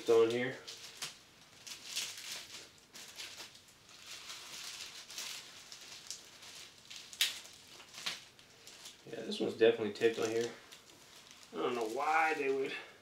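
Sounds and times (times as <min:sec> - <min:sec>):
plastic wrapping crinkling: 0:00.0 - 0:12.9.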